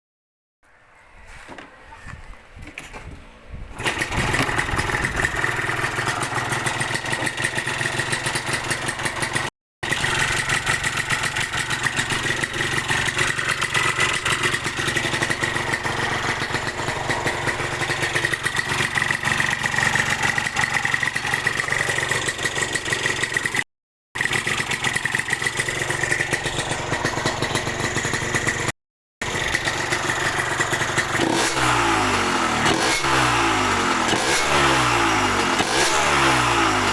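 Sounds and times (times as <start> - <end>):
motorcycle engine running: 2.2 - 23.6, 24.2 - 36.9.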